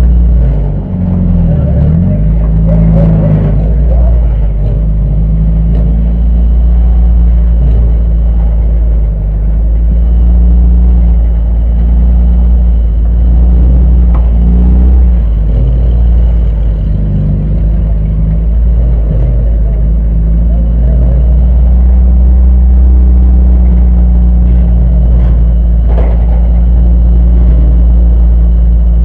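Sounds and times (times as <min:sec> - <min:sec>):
car engine running at low revs: 0:00.0 - 0:29.0.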